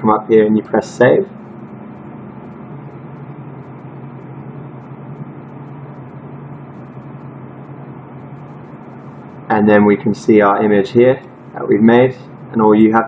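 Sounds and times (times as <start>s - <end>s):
low hum with drone: 0.0s - 13.0s.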